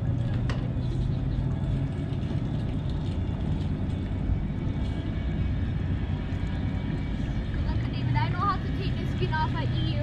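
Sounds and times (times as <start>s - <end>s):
low rumble of running machinery: 0.0s - 10.0s.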